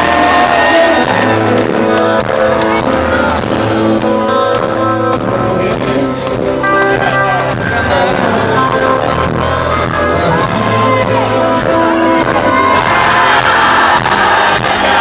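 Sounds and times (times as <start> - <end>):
guitars: 0.0 - 15.0
live band playing: 0.0 - 15.0
low bass notes: 0.0 - 15.0.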